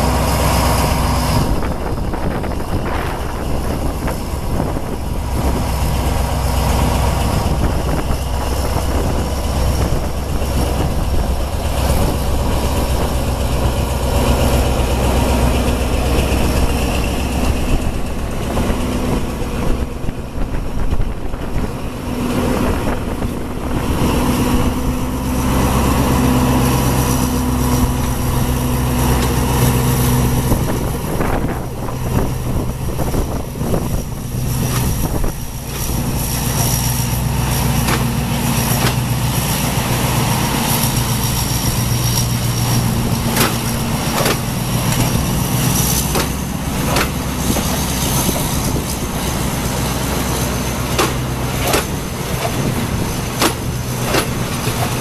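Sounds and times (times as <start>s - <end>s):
diesel locomotive engine drone: 0.0s - 55.0s
train wheels clicking over rail joints: 0.0s - 55.0s.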